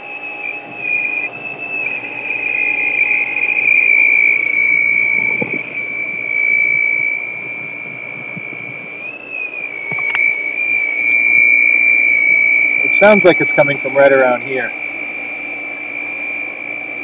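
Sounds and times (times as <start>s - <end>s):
pool pump high-pitched squeal: 0.0s - 17.0s.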